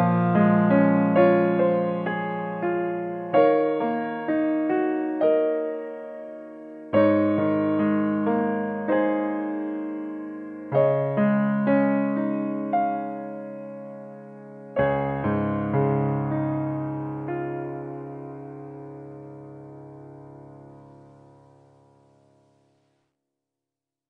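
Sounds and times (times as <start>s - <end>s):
slow solo piano piece: 0.0s - 22.9s.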